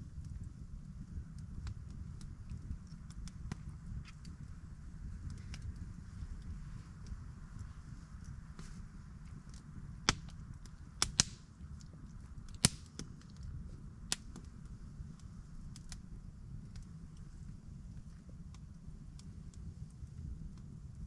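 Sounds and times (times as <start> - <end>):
low steady rumble: 0.0 - 21.0
wood fire crackling: 0.0 - 21.0.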